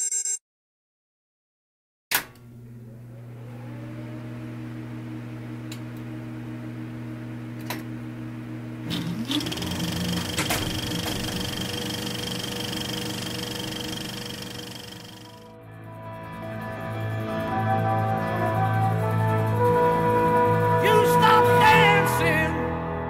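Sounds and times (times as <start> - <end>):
machine hum: 2.3 - 22.2
rising whine: 2.8 - 22.9.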